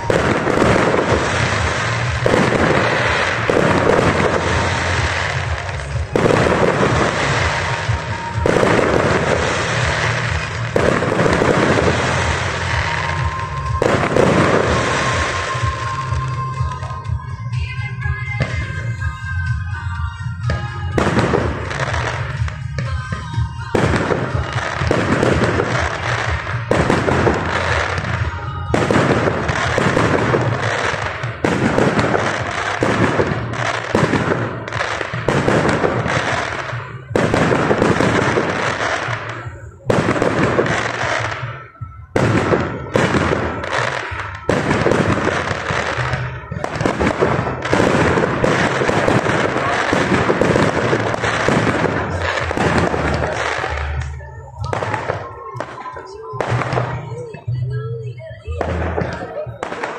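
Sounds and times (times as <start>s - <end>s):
fireworks bursting and crackling: 0.0s - 59.9s
music: 0.0s - 59.9s.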